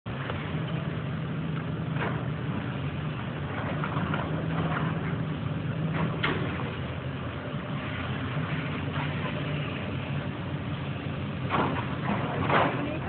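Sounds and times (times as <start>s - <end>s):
excavator diesel engine running: 0.1s - 13.0s.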